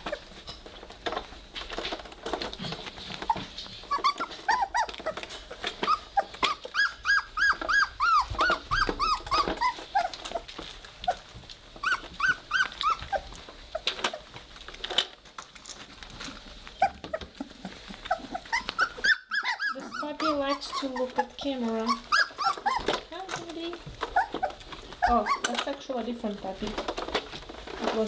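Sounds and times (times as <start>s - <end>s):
puppies squeaking and whimpering: 0.0s - 14.6s, 15.8s - 28.0s.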